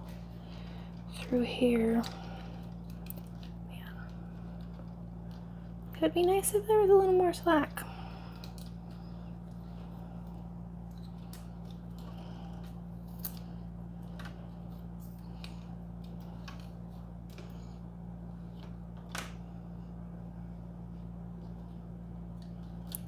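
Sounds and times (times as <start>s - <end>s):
clicks and rustles of cables: 0.0s - 6.4s, 8.3s - 17.8s, 18.5s - 19.5s, 21.4s - 23.0s
steady low hum: 0.0s - 23.0s.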